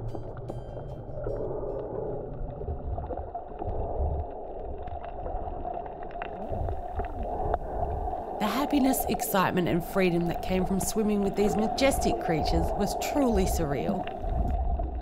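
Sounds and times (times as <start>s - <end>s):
underwater rumbling wash: 0.0s - 15.0s.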